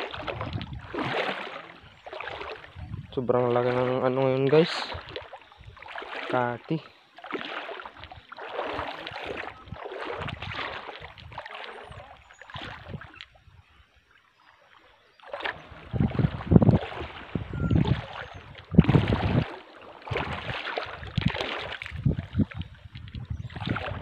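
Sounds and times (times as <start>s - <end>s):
water sloshing from wading: 0.0s - 24.0s.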